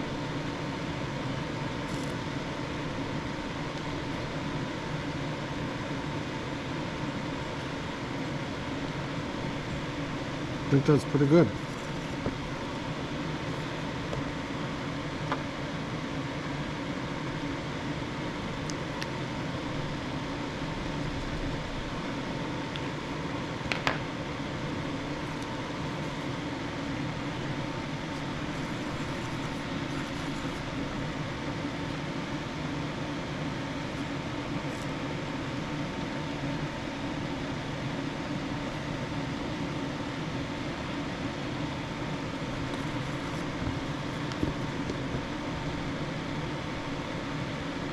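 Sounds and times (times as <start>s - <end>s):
small fan whirring: 0.0s - 47.9s.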